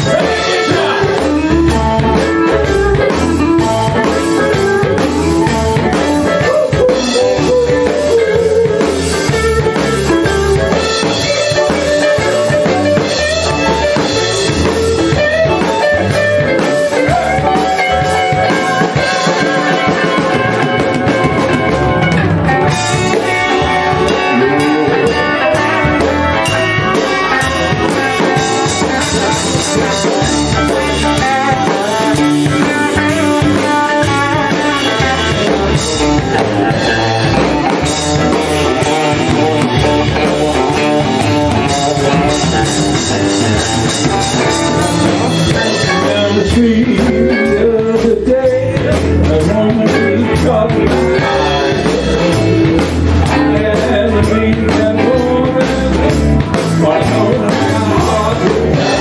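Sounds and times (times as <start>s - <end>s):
blues band playing live: 0.0s - 59.0s
electric guitar: 0.0s - 59.0s.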